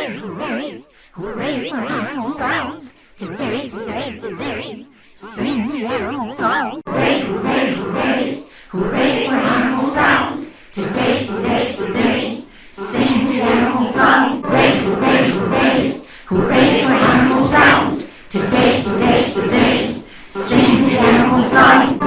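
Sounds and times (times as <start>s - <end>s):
voices singing children's song: 0.0s - 22.0s.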